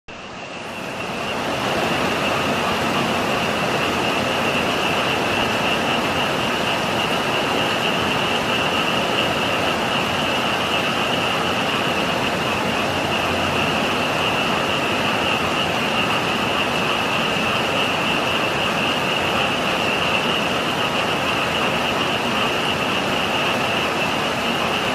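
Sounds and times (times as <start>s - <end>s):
heavy rain: 0.1s - 24.9s
frogs trilling: 0.2s - 24.9s.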